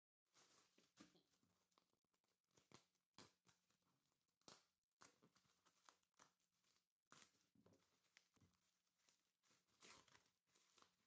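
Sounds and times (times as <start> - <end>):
plastic wrapping crinkling: 0.3 - 11.0.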